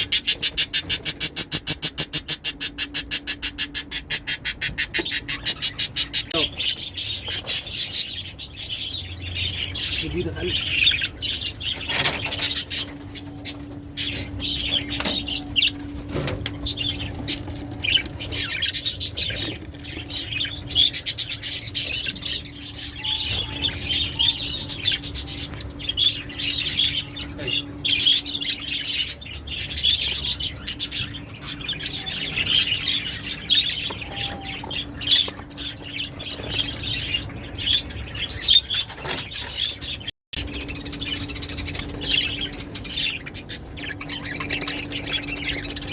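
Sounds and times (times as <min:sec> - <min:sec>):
steady low hum: 0:00.0 - 0:38.5
lovebirds chirping: 0:00.0 - 0:45.9.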